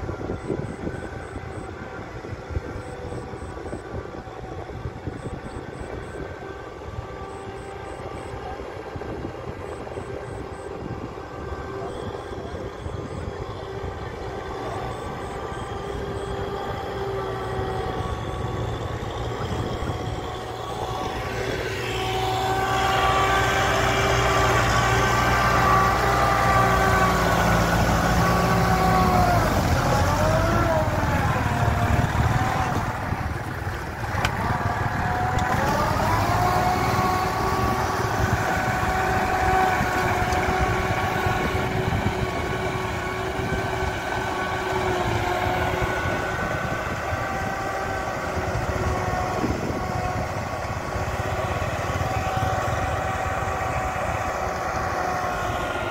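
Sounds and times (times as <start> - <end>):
diesel engine working hard: 0.0 - 55.9.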